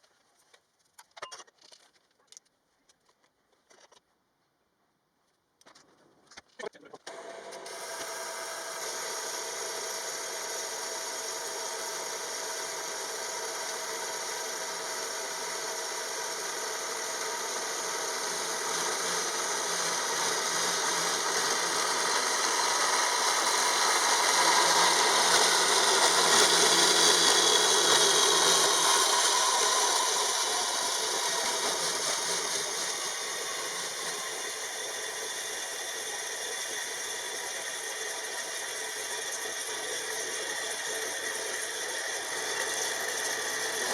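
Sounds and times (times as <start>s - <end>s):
power tool motor running: 7.0s - 43.9s.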